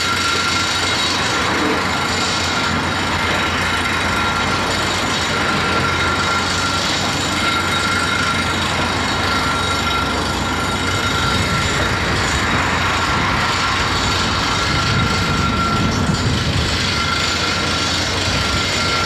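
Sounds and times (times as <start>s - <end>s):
excavator running with whine: 0.0s - 19.0s.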